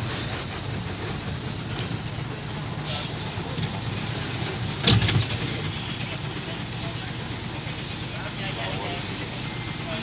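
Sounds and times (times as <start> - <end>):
road noise: 0.0 - 9.8.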